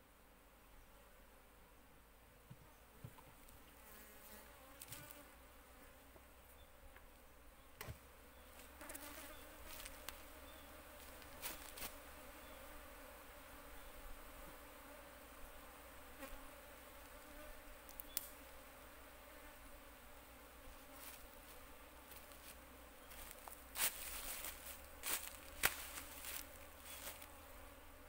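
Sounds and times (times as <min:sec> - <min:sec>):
bees buzzing: 0:01.0 - 0:06.6, 0:07.2 - 0:28.0.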